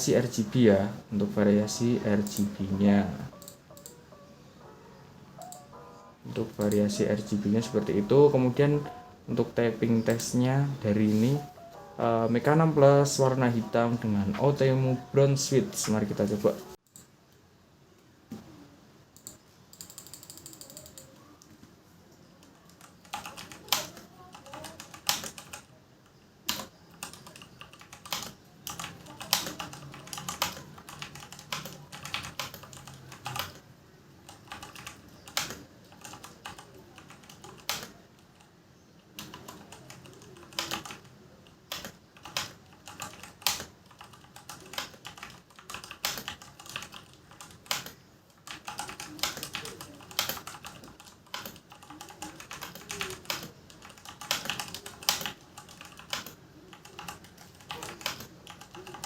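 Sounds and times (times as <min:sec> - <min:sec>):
mechanical keyboard typing: 0:01.6 - 0:04.2, 0:05.4 - 0:09.1, 0:09.9 - 0:17.1, 0:19.2 - 0:21.4, 0:22.3 - 0:33.6, 0:34.2 - 0:59.0.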